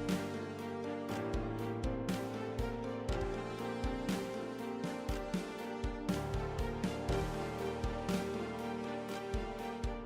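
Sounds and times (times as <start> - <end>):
instrumental music with soft beat: 0.0 - 10.0.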